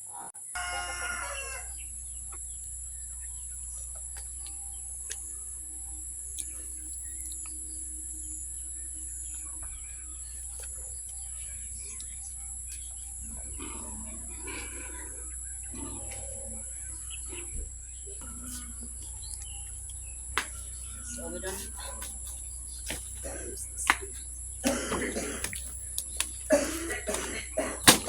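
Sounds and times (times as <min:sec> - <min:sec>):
high-pitched insect drone: 0:00.1 - 0:28.0
small birds chirping: 0:00.1 - 0:28.0.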